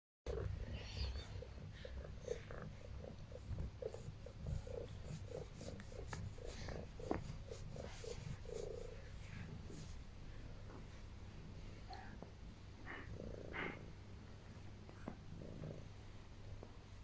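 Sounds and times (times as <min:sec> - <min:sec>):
cat purring: 0:00.3 - 0:17.0.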